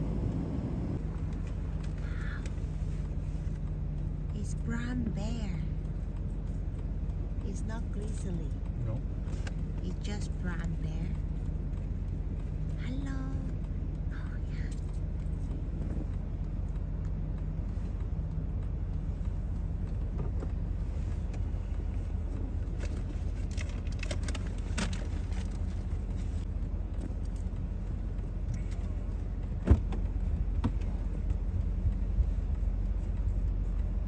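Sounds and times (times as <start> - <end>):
car engine rumbling: 0.0 - 34.0
light clicks and rattles: 1.0 - 34.0.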